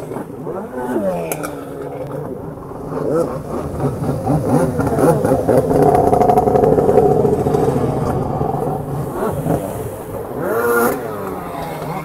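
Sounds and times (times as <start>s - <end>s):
jet ski engine revving: 0.0s - 12.0s.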